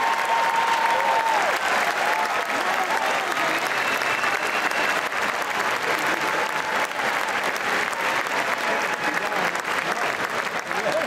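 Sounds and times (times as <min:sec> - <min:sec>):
crowd cheering: 0:00.0 - 0:11.0
crowd clapping: 0:00.0 - 0:11.0.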